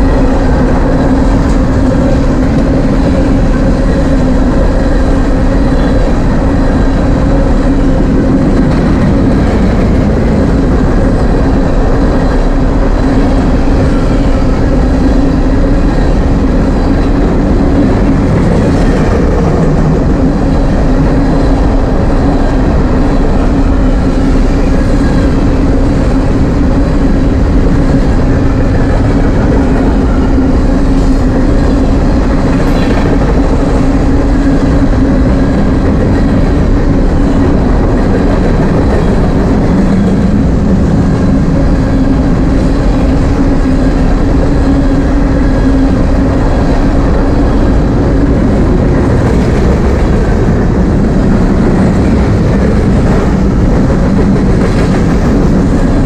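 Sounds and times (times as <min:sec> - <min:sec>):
constant low hum: 0:00.0 - 0:56.0
freight train cars rumbling past: 0:00.0 - 0:56.0.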